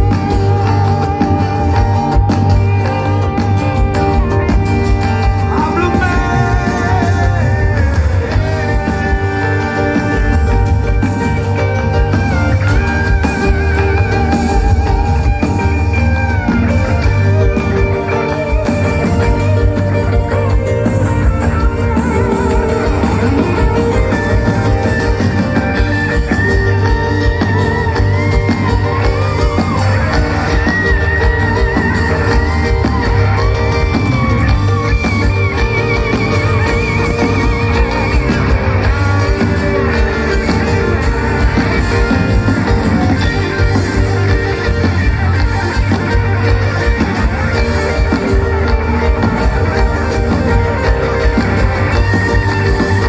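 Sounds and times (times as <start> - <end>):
bass and drums: 0.0 - 53.0
lead guitar with bends: 0.0 - 53.0.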